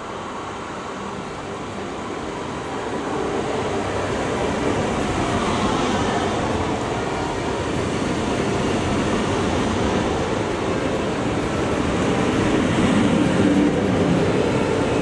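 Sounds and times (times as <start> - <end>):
train rolling past: 0.0 - 15.0.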